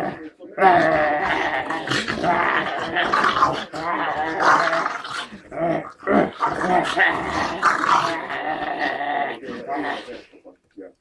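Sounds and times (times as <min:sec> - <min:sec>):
dog growling: 0:00.0 - 0:10.4.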